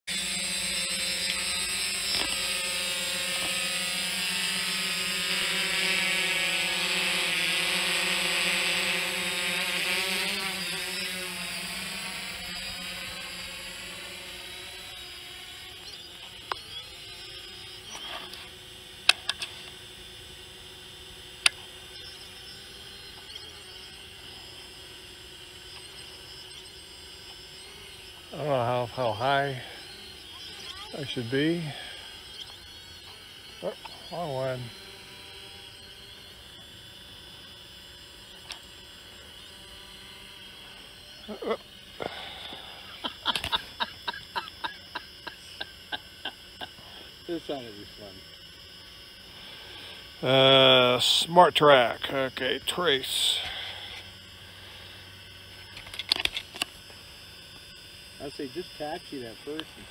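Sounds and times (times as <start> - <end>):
drone propellers buzzing: 0.1 - 59.9.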